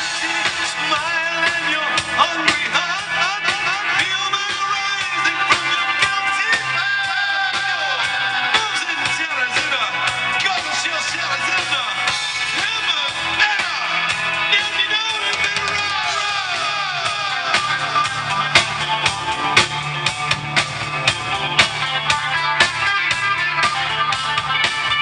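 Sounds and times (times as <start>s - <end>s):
bass guitar: 0.0s - 25.0s.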